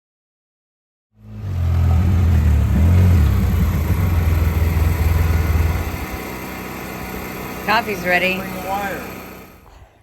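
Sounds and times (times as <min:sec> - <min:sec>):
vehicle engine running: 0:01.2 - 0:09.7.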